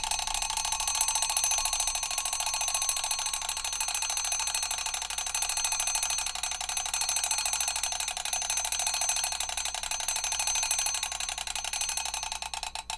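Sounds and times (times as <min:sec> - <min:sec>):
mechanical alarm clock ringing: 0:00.0 - 0:12.9.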